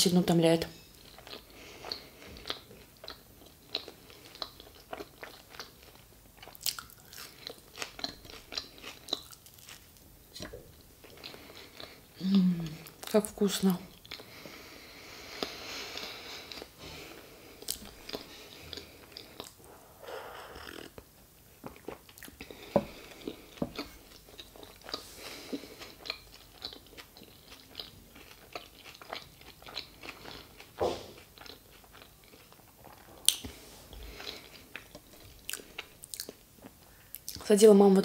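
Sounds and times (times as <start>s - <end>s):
person chewing food: 0.9s - 13.1s, 13.9s - 37.4s.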